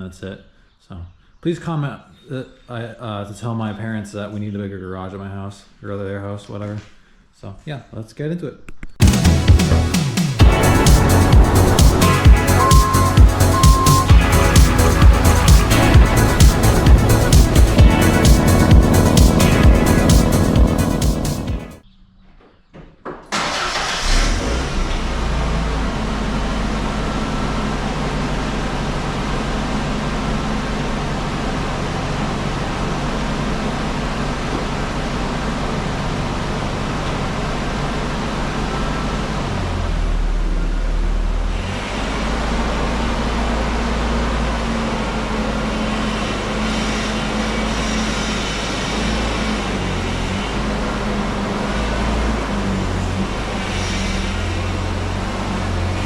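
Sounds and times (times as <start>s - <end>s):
engine running with exhaust leak: 9.0s - 21.8s, 23.4s - 56.0s.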